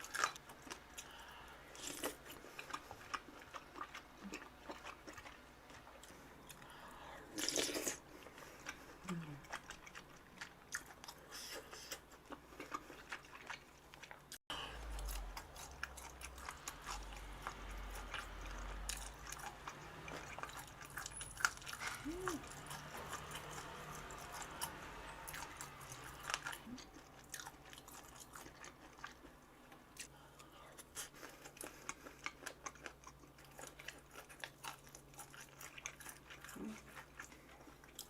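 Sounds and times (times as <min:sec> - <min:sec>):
person chewing crunchy food: 0:00.0 - 0:38.0.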